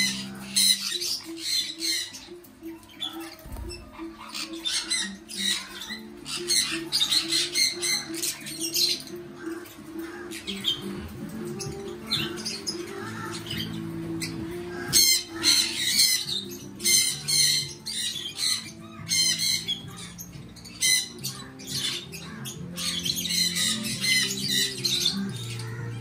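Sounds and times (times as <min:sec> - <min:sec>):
background music: 0:00.0 - 0:26.0
parrots squawking: 0:00.0 - 0:26.0.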